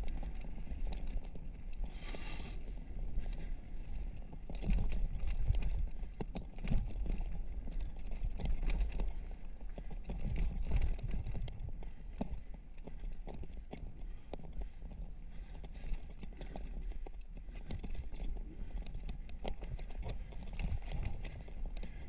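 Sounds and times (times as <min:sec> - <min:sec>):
bike rattling over rocks: 0:00.0 - 0:22.0
tyres rumbling on rocky trail: 0:00.0 - 0:22.0.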